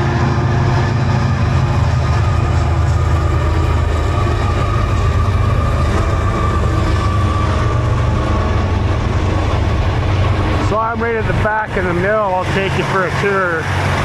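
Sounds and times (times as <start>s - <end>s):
train passing with heavy rumble: 0.0s - 14.0s.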